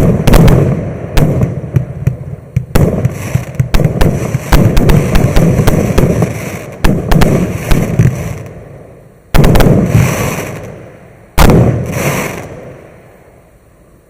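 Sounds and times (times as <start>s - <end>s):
firework bangs: 0.0s - 13.2s
firework crackling: 0.0s - 13.5s.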